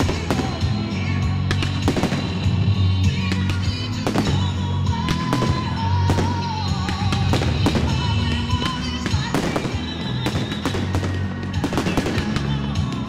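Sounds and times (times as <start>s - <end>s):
fireworks bangs and crackles: 0.0s - 13.0s
music with heavy bass: 0.0s - 13.0s.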